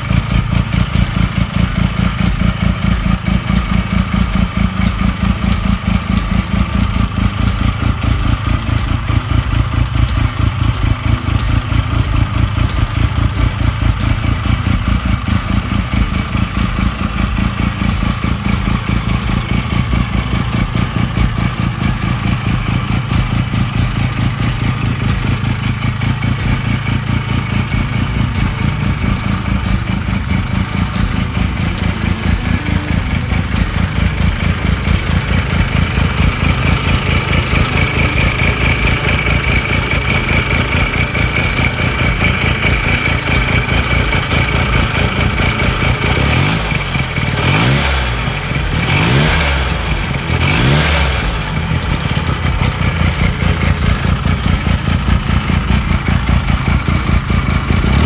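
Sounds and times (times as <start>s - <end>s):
rotary motorcycle engine idling: 0.0s - 58.0s.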